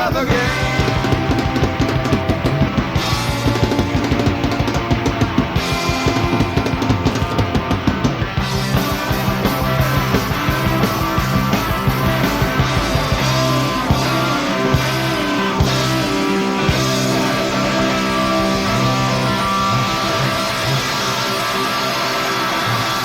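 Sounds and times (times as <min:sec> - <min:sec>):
bass guitar: 0:00.0 - 0:23.0
electric guitars: 0:00.0 - 0:23.0
fast drums: 0:00.0 - 0:23.0.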